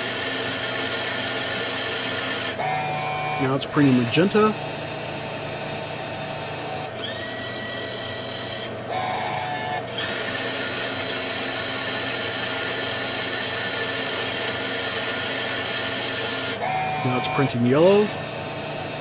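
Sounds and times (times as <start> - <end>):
disc label printer whirring: 0.0 - 19.0.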